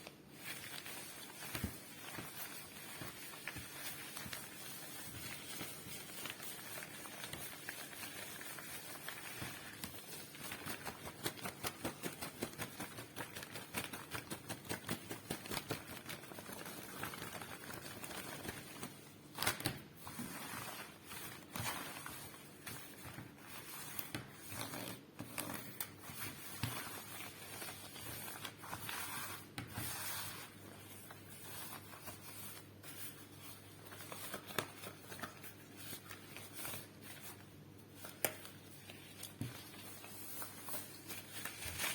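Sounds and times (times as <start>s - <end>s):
rubber gloves rustling: 0.0s - 41.9s.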